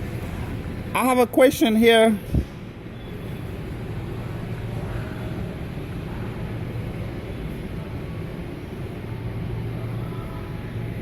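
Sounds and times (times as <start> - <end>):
store background hum and rumble: 0.0 - 11.0.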